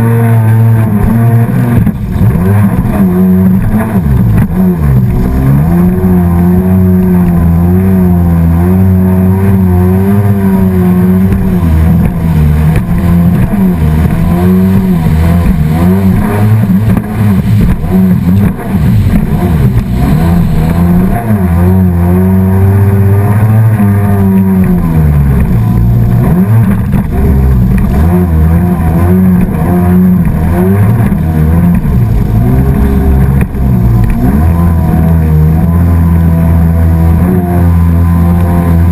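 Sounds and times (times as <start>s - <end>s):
motorboat engine at speed: 0.0s - 38.9s
water rushing and spray: 0.0s - 38.9s.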